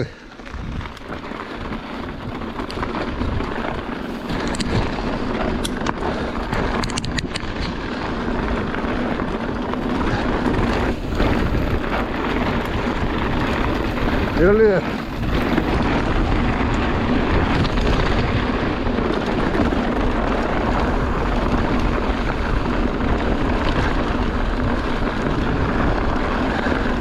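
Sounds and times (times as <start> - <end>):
bike clicks and rattles: 0.0 - 27.0
tyres rolling on dirt trail: 0.0 - 27.0
wind on microphone: 0.0 - 27.0.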